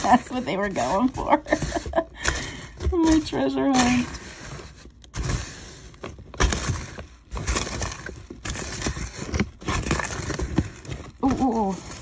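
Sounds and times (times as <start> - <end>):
beads rattling in box: 0.0 - 12.0
hand brushing cardboard: 0.0 - 12.0.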